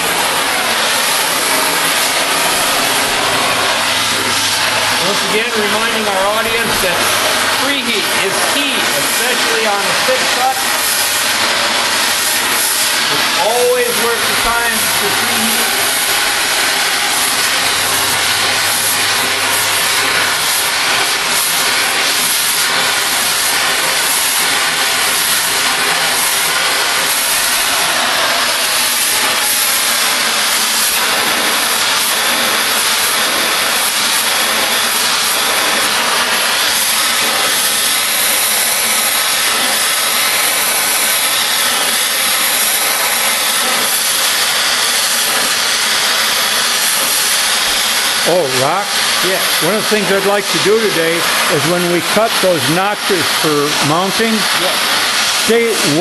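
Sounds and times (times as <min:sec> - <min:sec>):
cutting torch hissing: 0:00.0 - 0:56.0.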